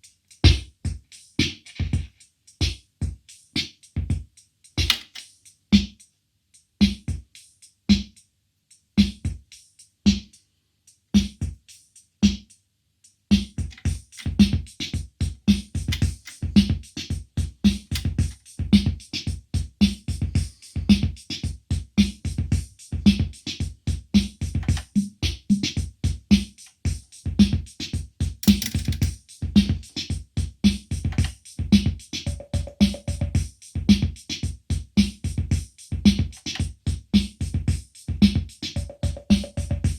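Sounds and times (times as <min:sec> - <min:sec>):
drum machine pattern: 0:00.0 - 0:08.2, 0:09.0 - 0:12.6, 0:13.3 - 0:39.9
drum machine cymbal hiss: 0:00.0 - 0:12.6, 0:13.3 - 0:39.9
drum machine hi-hat ticks: 0:00.0 - 0:39.9.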